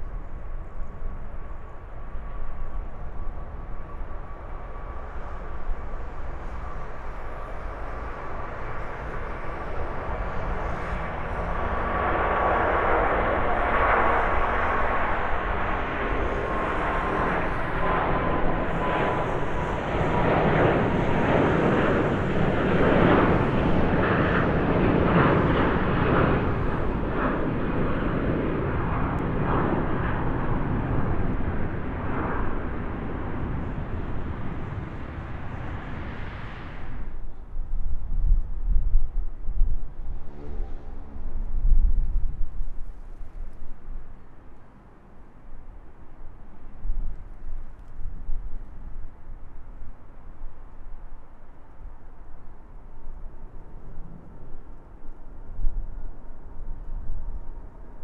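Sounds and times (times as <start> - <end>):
jet plane taking off: 0.1 - 58.0.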